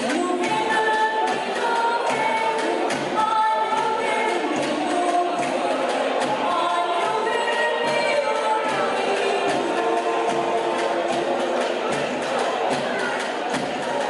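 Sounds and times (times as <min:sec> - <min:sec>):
strummed small guitars: 0:00.0 - 0:14.0
voices singing together: 0:00.0 - 0:14.0.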